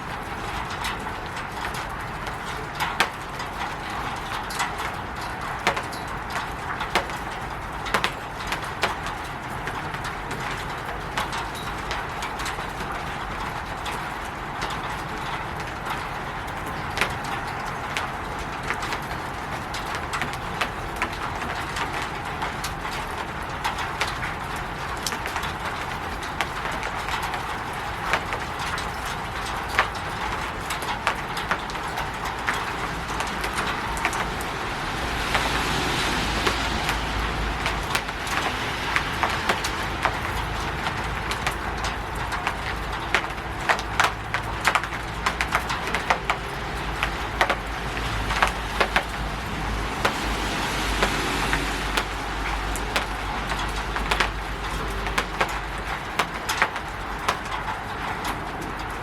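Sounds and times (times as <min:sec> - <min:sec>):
rain on a roof: 0:00.0 - 0:59.0
raindrops tapping: 0:00.0 - 0:59.0.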